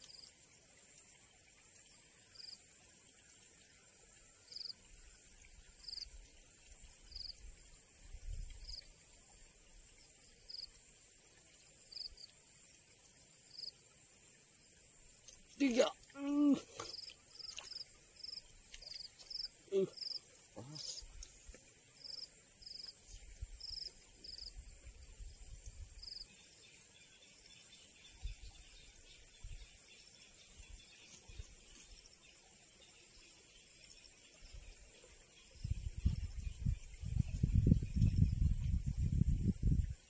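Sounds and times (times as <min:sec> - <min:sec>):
insects trilling: 0:00.0 - 0:40.0.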